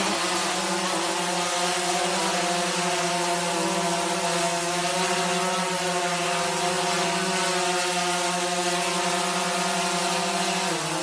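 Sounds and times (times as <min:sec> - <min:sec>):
quadcopter hovering buzz: 0:00.0 - 0:11.0.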